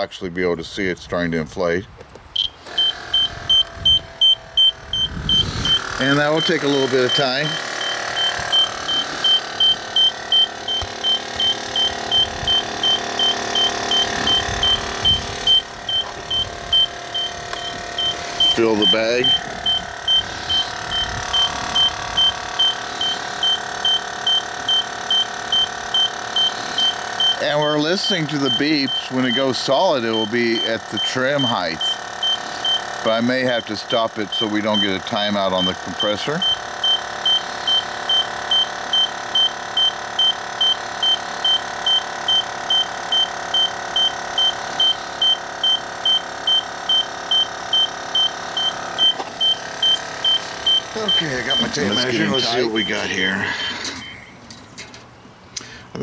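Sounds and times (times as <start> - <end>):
air compressor whine: 2.2 - 56.0
rapid short high beeps: 2.4 - 32.9, 34.2 - 54.4.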